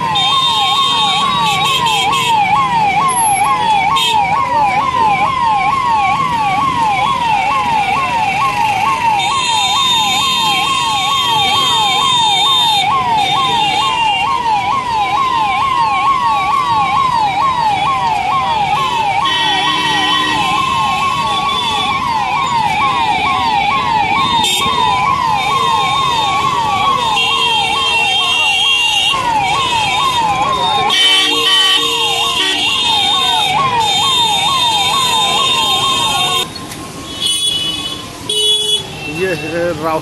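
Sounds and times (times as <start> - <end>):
siren fast yelp: 0.0 - 36.5
siren slow wail: 0.0 - 36.5
crowded street din: 0.0 - 40.0.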